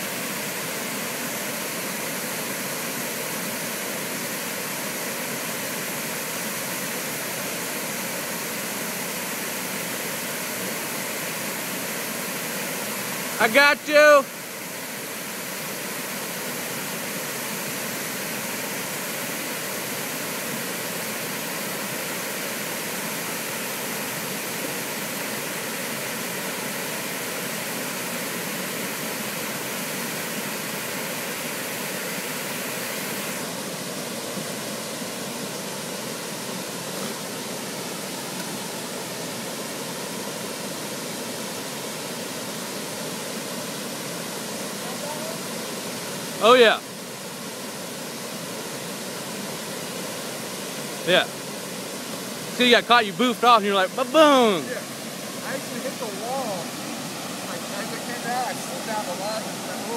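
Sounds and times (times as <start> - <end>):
waterfall rushing into pool: 0.0 - 59.9.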